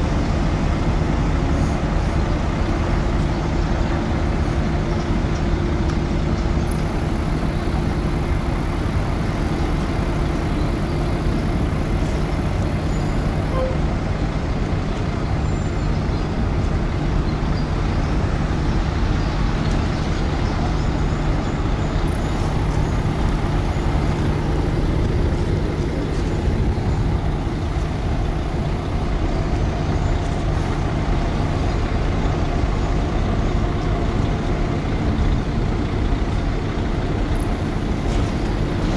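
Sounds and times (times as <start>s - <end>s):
ship engines rumbling: 0.0s - 38.9s.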